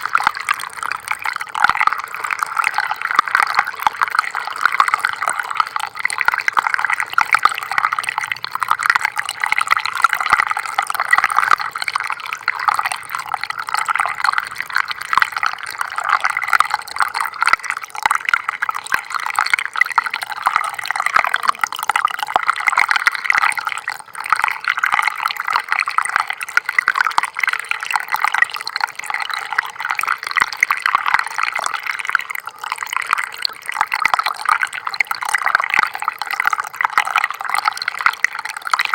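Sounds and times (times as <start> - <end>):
small stream flowing and splashing: 0.0 - 38.9.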